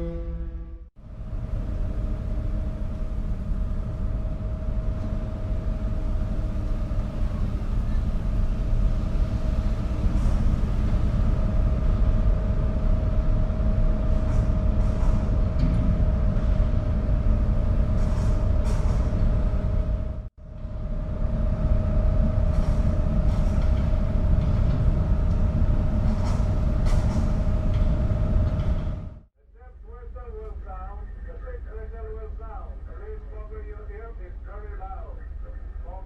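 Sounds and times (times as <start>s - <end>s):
constant hum: 0.0s - 36.0s
ferry engine rumble: 0.0s - 36.0s.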